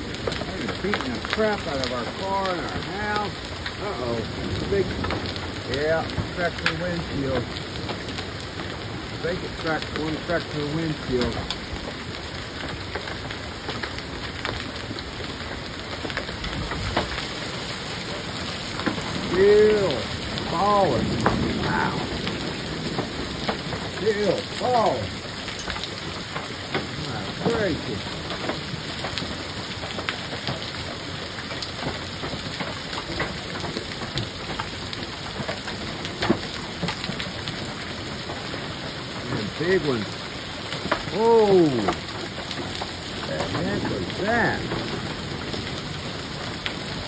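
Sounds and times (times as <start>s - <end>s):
hailstones striking hard surfaces: 0.0s - 47.0s
heavy rain pouring: 0.0s - 47.0s.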